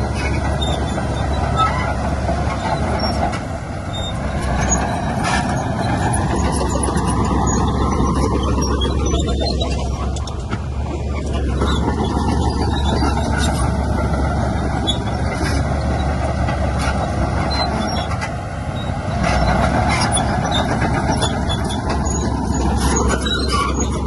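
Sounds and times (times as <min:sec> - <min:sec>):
diesel machinery running under load: 0:00.0 - 0:24.0.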